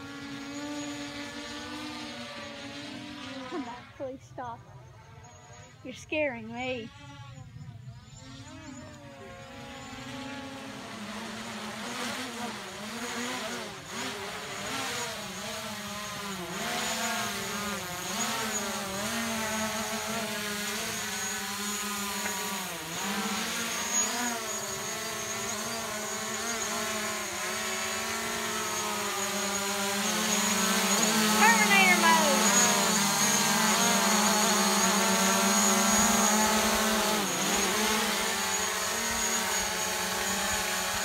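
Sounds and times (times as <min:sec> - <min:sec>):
drone propellers whining: 0:00.0 - 0:41.0.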